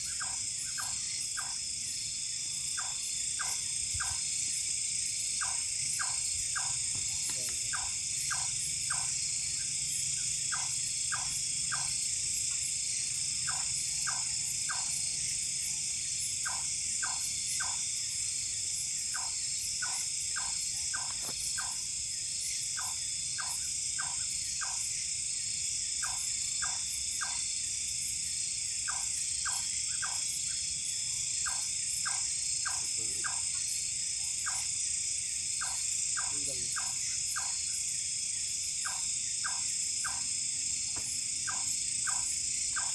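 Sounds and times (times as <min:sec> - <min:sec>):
crickets trilling: 0:00.0 - 0:42.9
short insect calls: 0:00.0 - 0:42.9.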